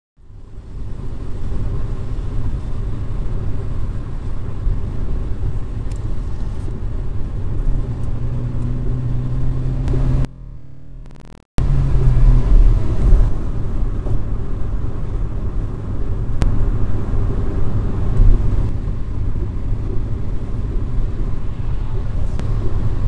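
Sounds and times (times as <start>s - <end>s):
car engine drone: 0.2s - 23.0s
road noise inside car: 0.2s - 23.0s.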